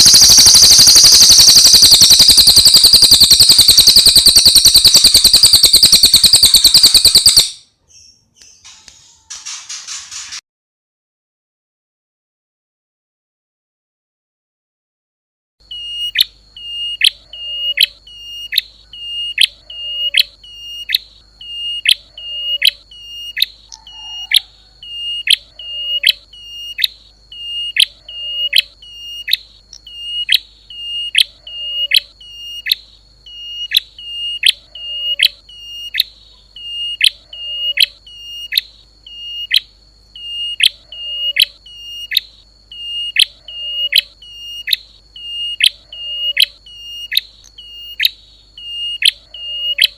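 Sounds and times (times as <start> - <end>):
continuous high-pitched whine: 0.0 - 10.4, 15.6 - 49.9.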